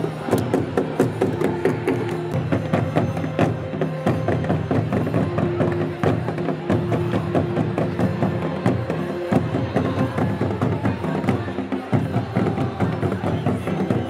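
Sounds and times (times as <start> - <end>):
music with rapid drumming: 0.0 - 14.0.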